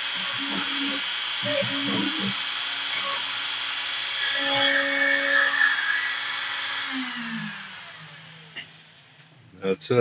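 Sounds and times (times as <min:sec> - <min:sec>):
router spindle whining: 0:00.0 - 0:09.2.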